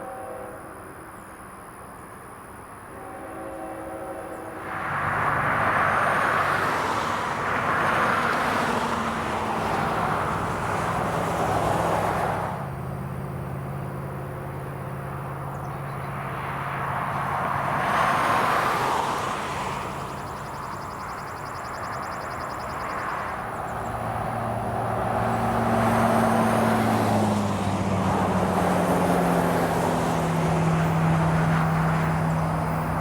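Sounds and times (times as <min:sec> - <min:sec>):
diesel locomotive engines droning: 0:00.0 - 0:33.0
train rushing noise: 0:03.0 - 0:33.0.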